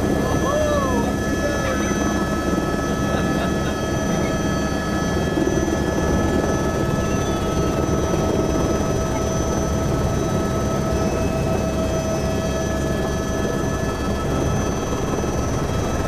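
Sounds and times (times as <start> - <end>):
helicopter drone inside cabin: 0.0 - 16.0
helicopter turbine whine: 0.0 - 16.0.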